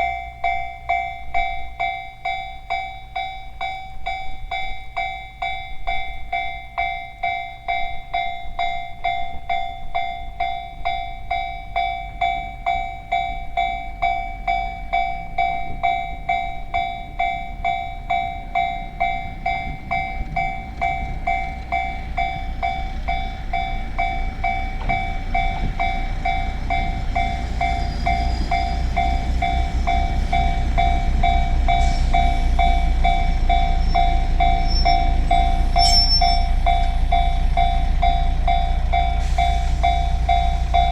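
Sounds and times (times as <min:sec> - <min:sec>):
train rumble: 0:00.0 - 0:40.9
level crossing alarm ringing: 0:06.0 - 0:40.9.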